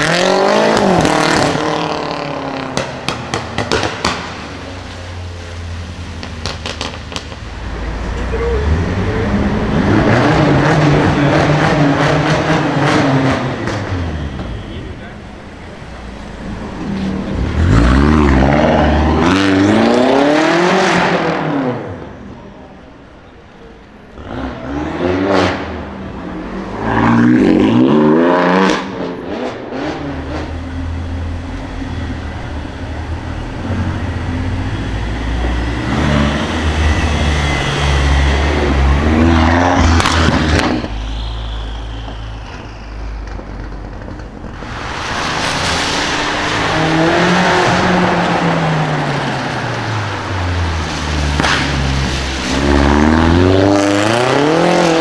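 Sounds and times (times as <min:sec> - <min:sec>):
car engine revving: 0:00.0 - 0:22.2, 0:24.1 - 0:55.0.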